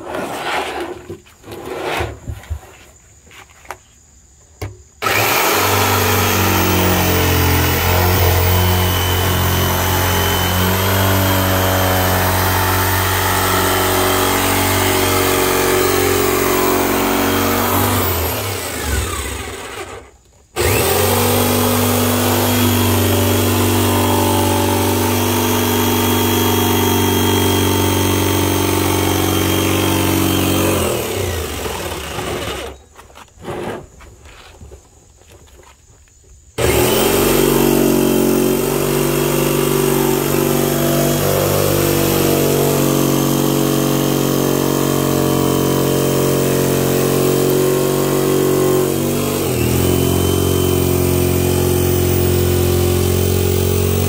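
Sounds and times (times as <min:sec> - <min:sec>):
jigsaw cutting plastic: 0:05.0 - 0:32.8, 0:36.6 - 0:54.0.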